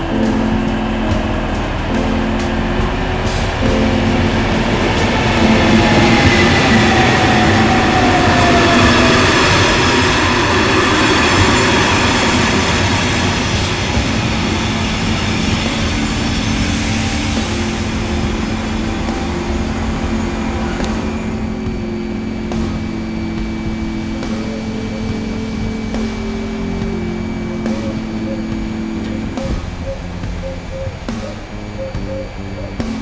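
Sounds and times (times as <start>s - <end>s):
traction hum: 0.0s - 33.0s
wheel and rail noise: 0.0s - 33.0s
whine falling in pitch: 0.0s - 33.0s.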